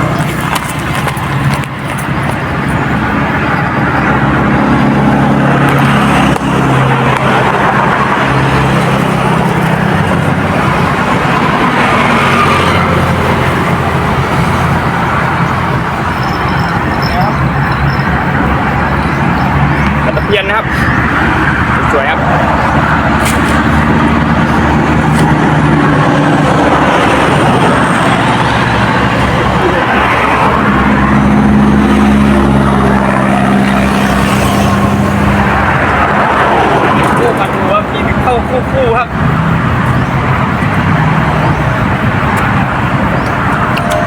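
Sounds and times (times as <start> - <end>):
constant background noise: 0.0 - 44.0
engine running: 0.0 - 44.0
road traffic noise: 0.0 - 44.0.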